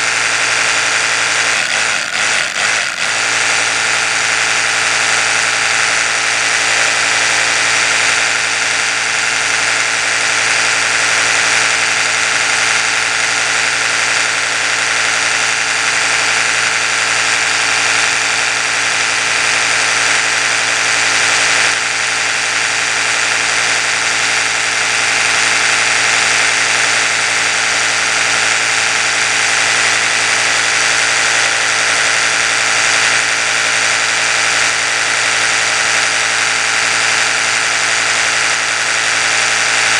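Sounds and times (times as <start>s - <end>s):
electric toothbrush motor humming: 0.0s - 39.9s.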